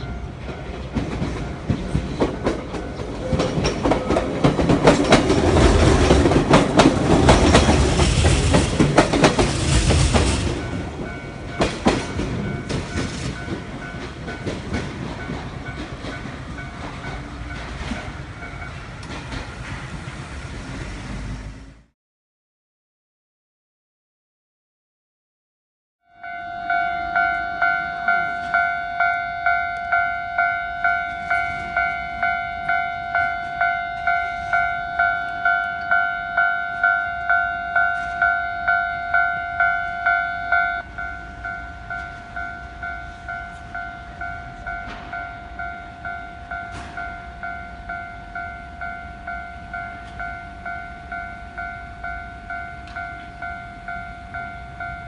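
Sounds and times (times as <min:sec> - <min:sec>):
level crossing warning bell ringing: 0:00.0 - 0:19.0, 0:26.1 - 0:55.0.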